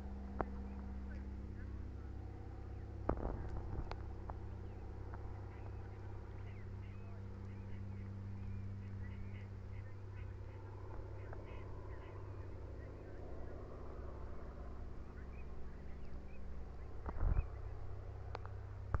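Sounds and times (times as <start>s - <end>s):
distant bird chirps: 0.0s - 19.0s
steady low hum: 0.0s - 19.0s.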